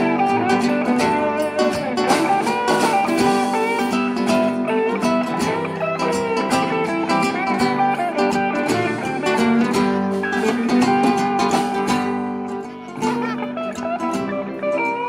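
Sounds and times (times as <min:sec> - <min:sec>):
acoustic guitar: 0:00.0 - 0:15.0
electric guitar: 0:00.0 - 0:15.0.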